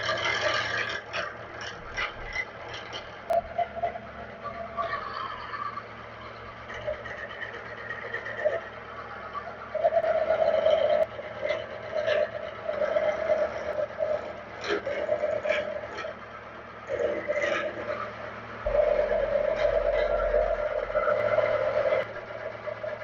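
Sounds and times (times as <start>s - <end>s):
mill cutting metal: 0.0s - 23.0s
milling machine hum: 0.0s - 23.0s.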